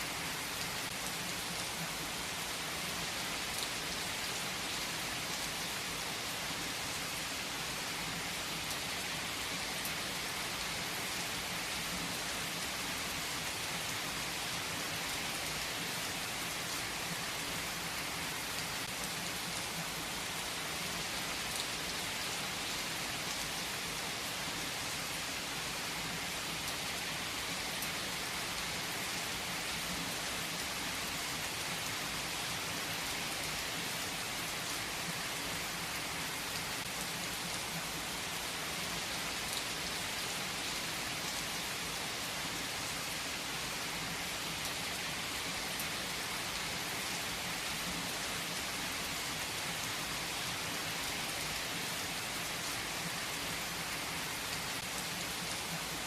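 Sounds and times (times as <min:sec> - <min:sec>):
rain pattering on a surface: 0:00.1 - 0:56.0.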